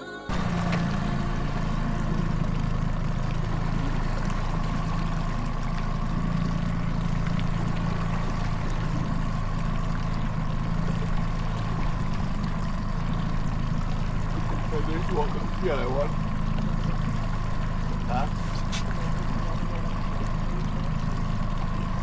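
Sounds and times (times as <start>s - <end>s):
thin steady whine: 0.0s - 21.8s
boat engine droning: 0.0s - 22.0s
water noise: 0.0s - 22.0s.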